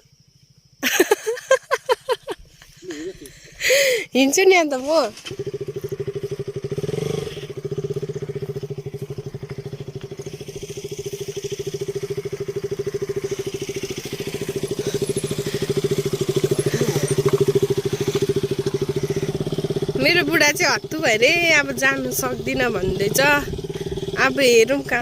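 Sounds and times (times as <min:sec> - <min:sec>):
motorcycle engine chugging: 0:00.0 - 0:25.0.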